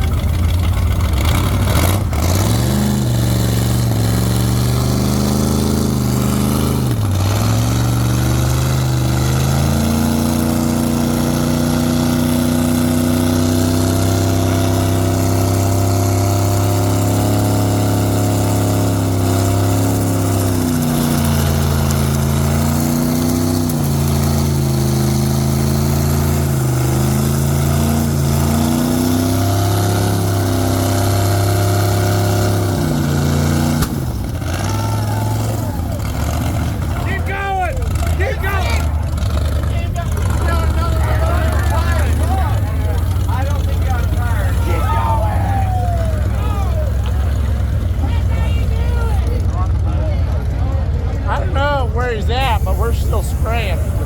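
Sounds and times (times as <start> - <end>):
engine revving at high revs: 0.0 - 50.5, 51.3 - 54.0.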